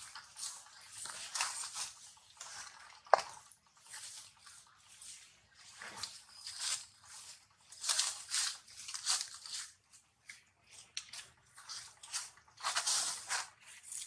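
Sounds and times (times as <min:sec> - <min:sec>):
monkey chewing and crunching: 0:00.0 - 0:14.0.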